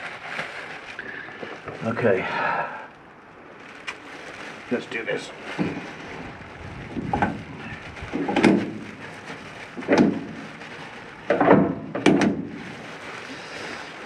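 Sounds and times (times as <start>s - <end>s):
plastic rustling: 0.0s - 14.0s.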